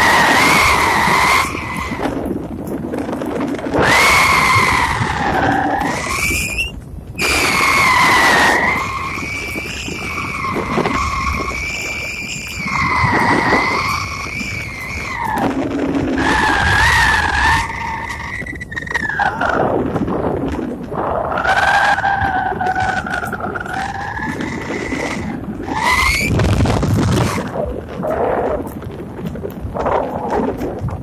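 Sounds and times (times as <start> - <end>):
wind whistling over microphone: 0.0 - 31.0.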